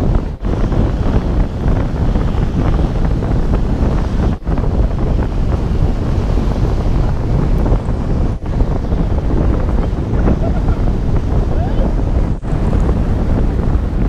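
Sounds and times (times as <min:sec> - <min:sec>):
car road noise: 0:00.0 - 0:14.0
wind buffeting microphone: 0:00.0 - 0:14.0.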